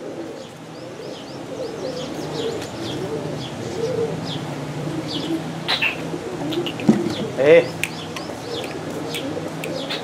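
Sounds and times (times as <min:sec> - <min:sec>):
pigeons cooing: 0:00.0 - 0:10.0
small birds chirping: 0:00.0 - 0:10.0.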